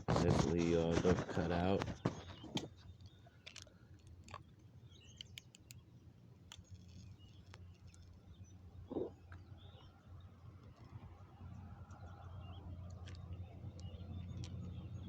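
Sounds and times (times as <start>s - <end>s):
low steady hum: 0.0s - 15.0s
small clicks: 1.0s - 9.9s, 11.8s - 15.0s.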